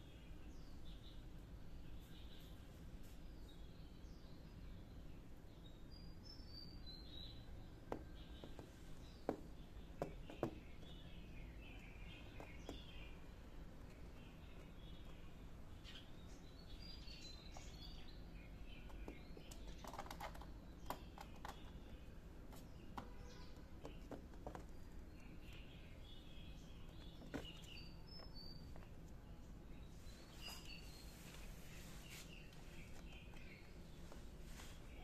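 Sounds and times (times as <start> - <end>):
faint birds chirping: 0.0 - 35.0
low background hum: 0.0 - 35.0.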